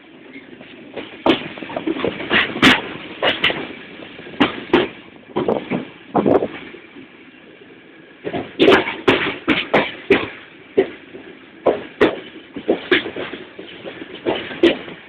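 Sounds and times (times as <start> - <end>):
train wheels clattering over rails: 0.0 - 7.2, 8.2 - 15.0.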